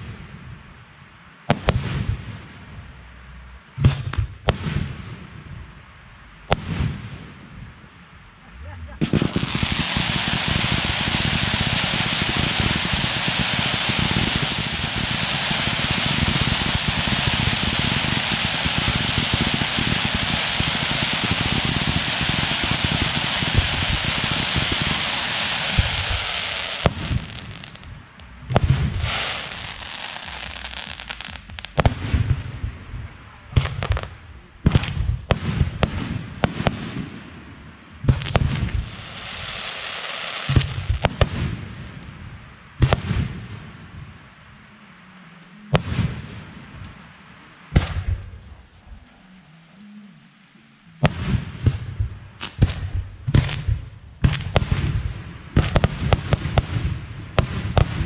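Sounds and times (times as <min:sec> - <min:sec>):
fireworks bangs and crackle: 0:00.0 - 0:03.0, 0:03.7 - 0:05.8, 0:06.4 - 0:44.6, 0:45.4 - 0:49.2, 0:51.0 - 0:58.0.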